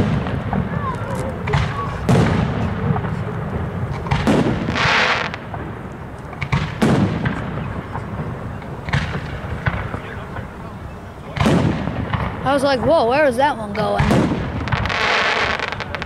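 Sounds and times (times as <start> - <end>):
firework hiss: 0.0 - 12.9, 14.0 - 16.0
fireworks bursting bangs: 0.0 - 16.0.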